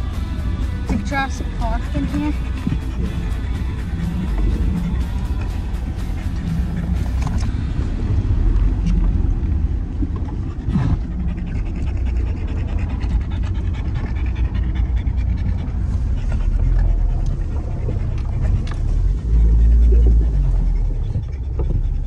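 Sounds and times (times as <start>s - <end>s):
dog panting: 0.0s - 8.0s, 10.3s - 22.0s
car engine and road rumble: 0.0s - 22.0s.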